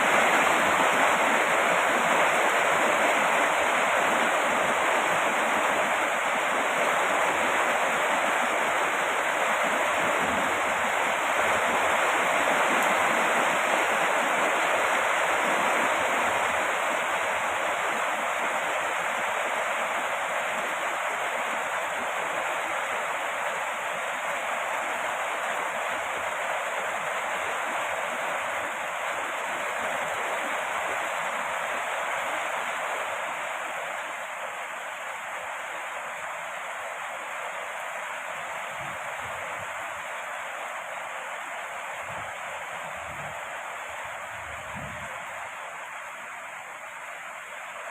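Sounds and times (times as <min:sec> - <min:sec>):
rain falling steadily: 0:00.0 - 0:47.9.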